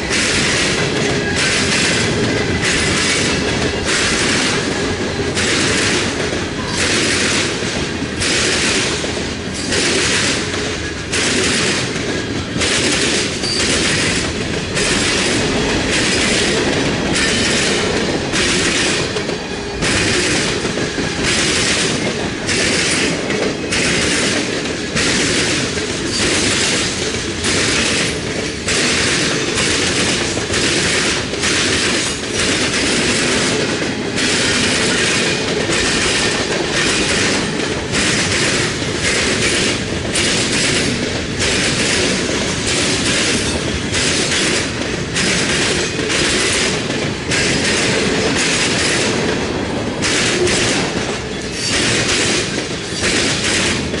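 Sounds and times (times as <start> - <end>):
freight train rumble: 0.0 - 54.0
train wheel clatter: 0.0 - 54.0.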